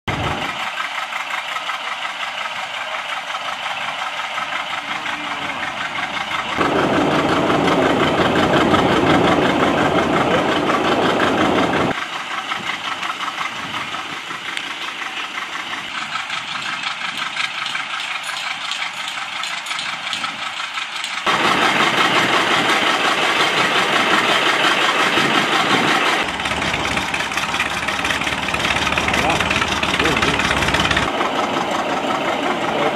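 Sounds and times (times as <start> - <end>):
diesel tractor running under load: 0.1 - 32.9.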